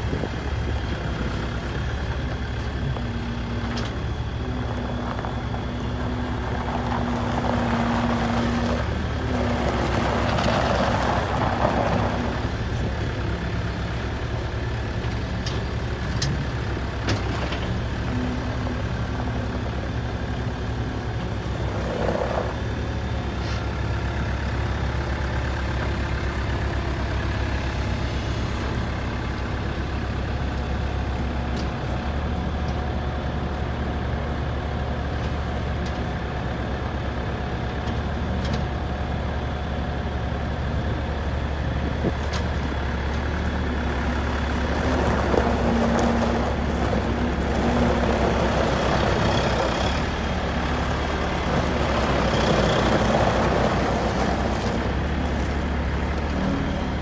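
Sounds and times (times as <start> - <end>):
diesel engine running: 0.0 - 57.0
tyres on gravel: 0.0 - 57.0.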